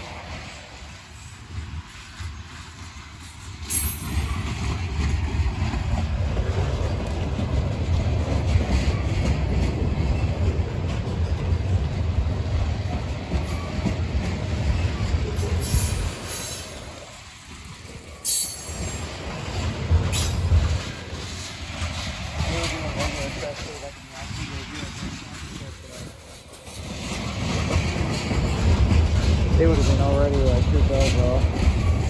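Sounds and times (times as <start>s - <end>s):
freight train wheels clattering on rails: 0.0s - 32.0s.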